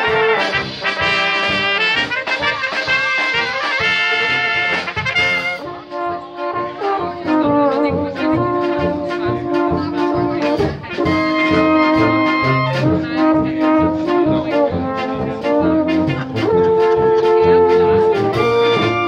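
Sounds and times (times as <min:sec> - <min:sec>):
brass band playing a polka: 0:00.0 - 0:19.0.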